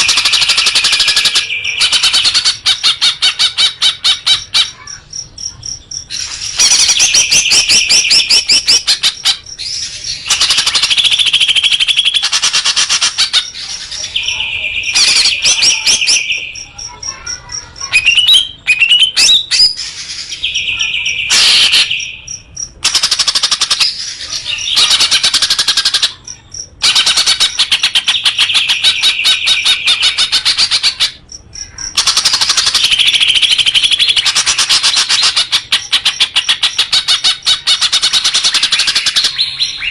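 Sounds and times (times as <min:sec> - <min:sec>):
songbird chattering song: 0:00.0 - 0:39.9.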